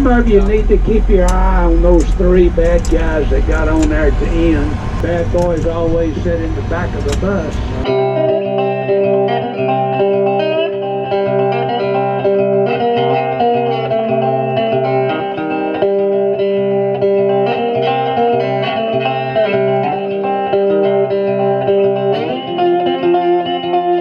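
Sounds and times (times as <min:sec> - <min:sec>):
electric guitar melody: 0:00.0 - 0:24.0.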